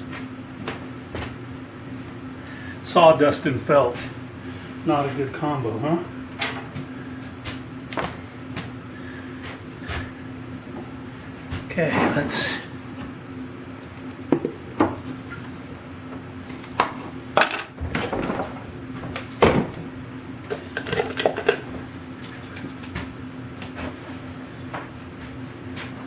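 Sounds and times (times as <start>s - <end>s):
faint steady hum: 0.0s - 23.7s.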